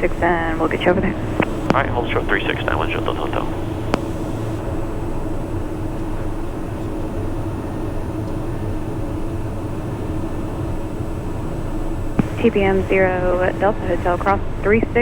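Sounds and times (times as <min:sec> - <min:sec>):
turboprop engine droning: 0:00.0 - 0:15.0.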